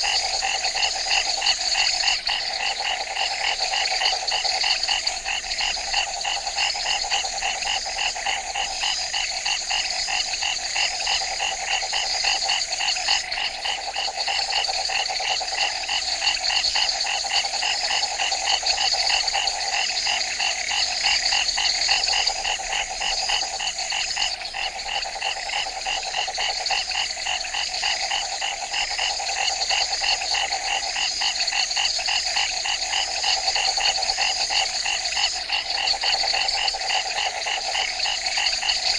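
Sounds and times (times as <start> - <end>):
frogs calling: 0.0 - 38.9.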